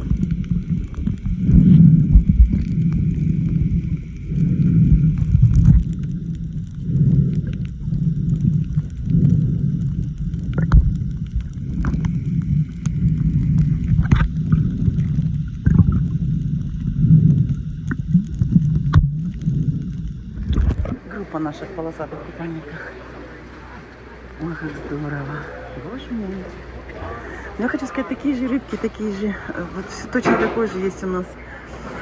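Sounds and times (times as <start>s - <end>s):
faint steady hum: 0.0s - 32.0s
muffled underwater water rumble: 0.0s - 32.0s.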